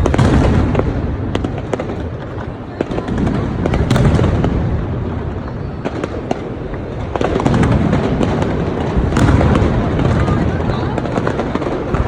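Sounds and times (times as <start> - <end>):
fireworks crackling pops: 0.0 - 12.0
low rumble of fireworks booms: 0.0 - 12.0.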